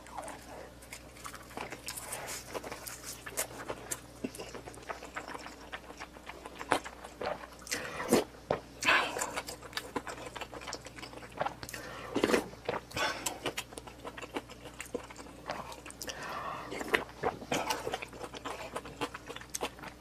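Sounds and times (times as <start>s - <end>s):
close chewing and biting: 0.0s - 20.0s.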